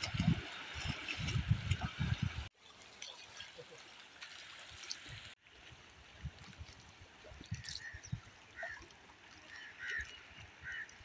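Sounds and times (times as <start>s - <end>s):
river water lapping: 0.0s - 11.0s.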